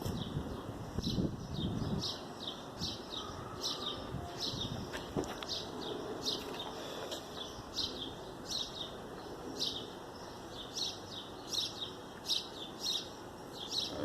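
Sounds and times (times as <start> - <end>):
small bird chirping: 0.0 - 14.0
steady background hiss: 0.0 - 14.0.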